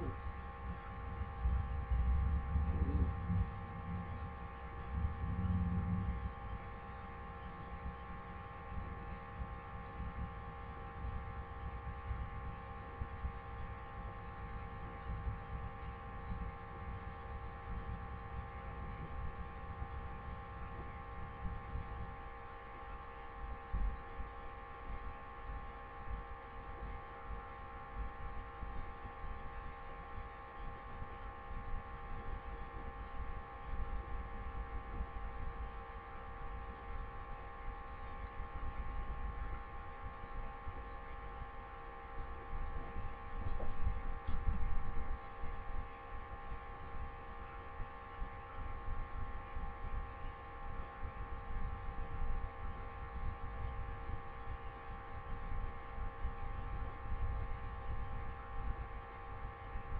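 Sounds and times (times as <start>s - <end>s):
electrical hum: 0.0s - 59.9s.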